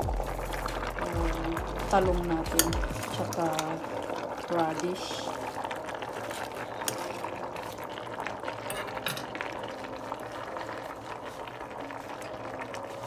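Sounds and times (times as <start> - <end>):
broth bubbling in pot: 0.0 - 13.0.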